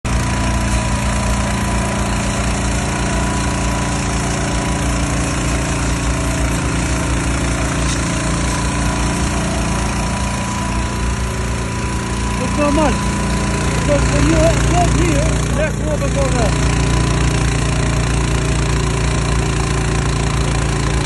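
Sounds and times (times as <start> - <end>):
pressure washer engine running: 0.0 - 21.0.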